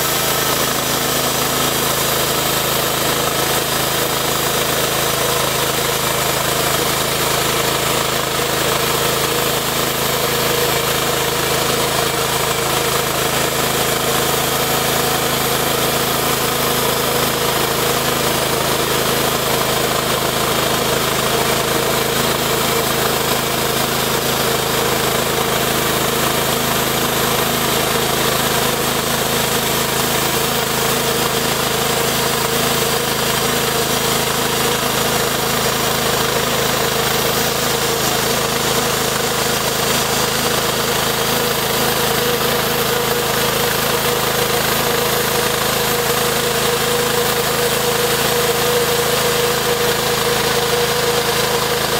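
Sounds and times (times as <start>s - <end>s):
band blade cutting log: 0.0s - 51.9s
small engine running under load: 0.0s - 51.9s.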